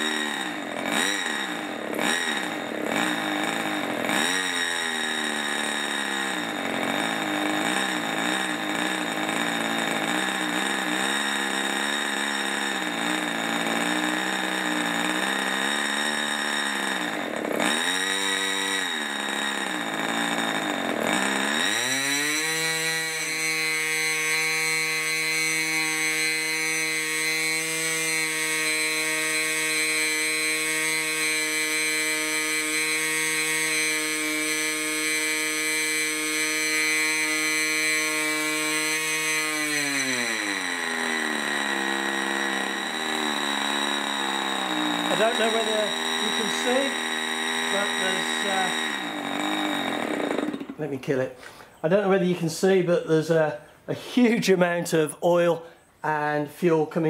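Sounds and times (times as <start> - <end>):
model glow engine running: 0.0 - 51.0.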